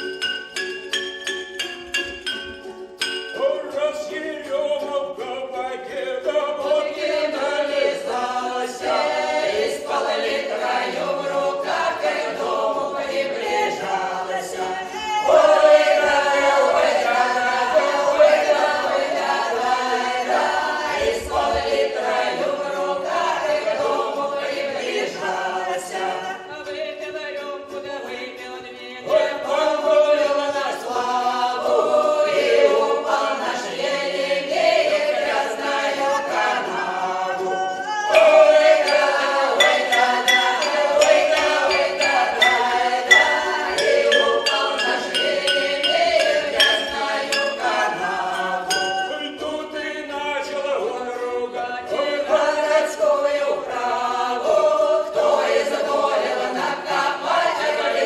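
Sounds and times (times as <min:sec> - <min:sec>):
folk choir singing in harmony: 0:00.0 - 0:58.0.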